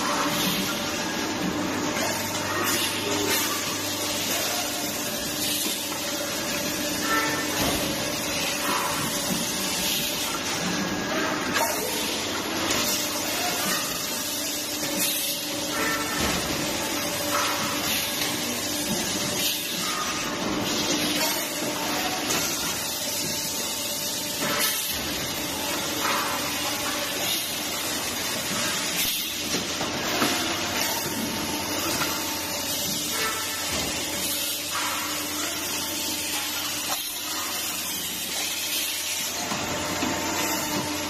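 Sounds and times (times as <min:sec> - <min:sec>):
machine hiss and hum: 0:00.0 - 0:41.0.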